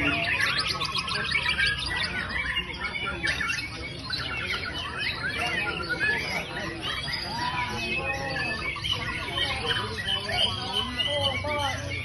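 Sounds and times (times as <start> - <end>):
bird singing trills and whistles: 0.0 - 12.0.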